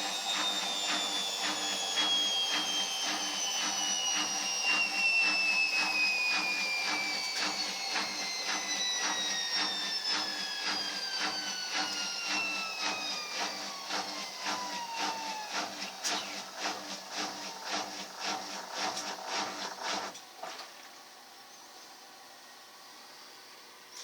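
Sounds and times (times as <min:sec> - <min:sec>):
washing machine motor whine: 0:00.0 - 0:20.4.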